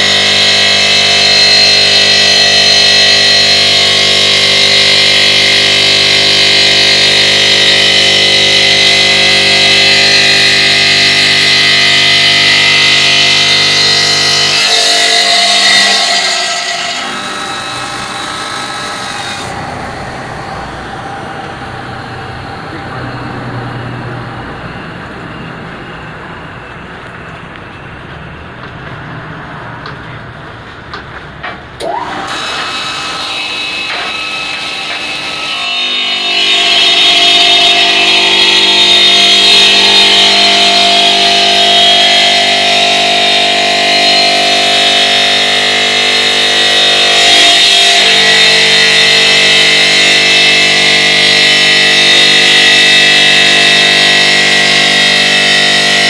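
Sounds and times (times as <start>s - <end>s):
stone cutting machine whine: 0.0s - 30.0s, 31.4s - 56.0s.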